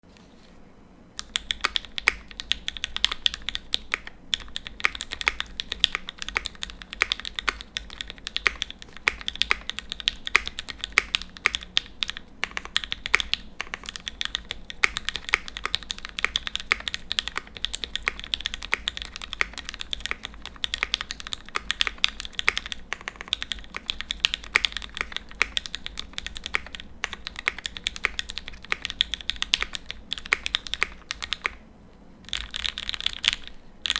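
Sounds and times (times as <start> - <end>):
fast mechanical keyboard typing: 1.2 - 31.6, 32.2 - 33.9.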